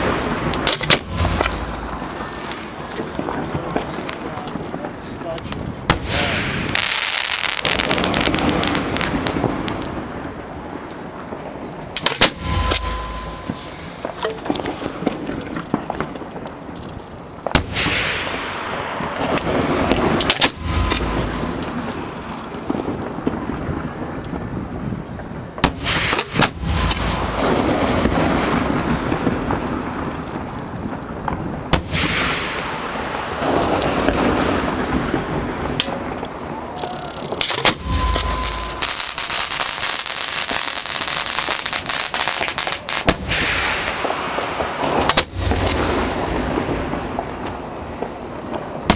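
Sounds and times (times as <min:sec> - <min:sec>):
fireworks cracking and booming: 0:00.0 - 0:48.9.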